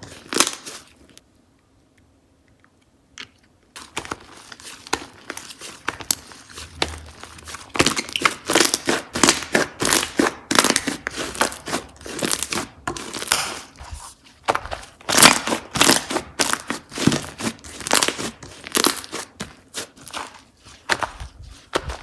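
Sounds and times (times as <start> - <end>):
slime being squished: 0.0 - 1.1, 3.8 - 22.0.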